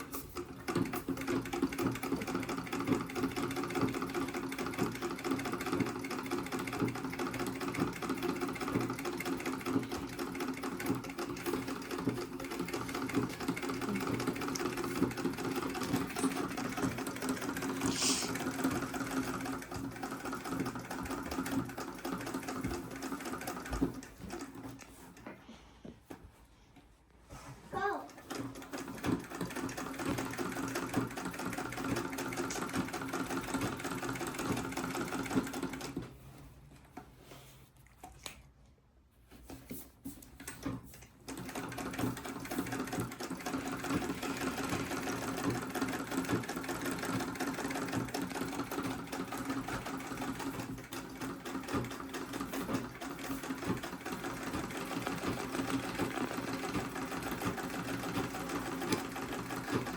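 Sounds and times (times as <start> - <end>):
sewing machine clicks: 0.0 - 25.2, 28.2 - 36.1, 40.4 - 59.9
treadle sewing machine stitching: 0.0 - 25.2, 27.8 - 36.4, 39.4 - 59.9.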